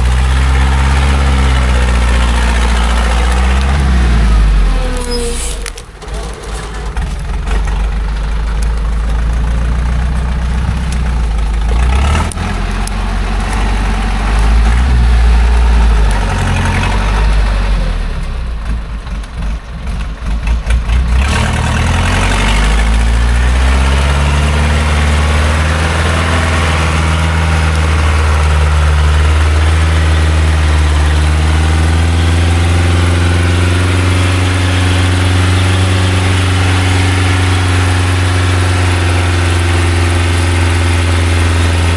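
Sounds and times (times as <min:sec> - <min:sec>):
truck engine straining: 0:00.0 - 0:41.9.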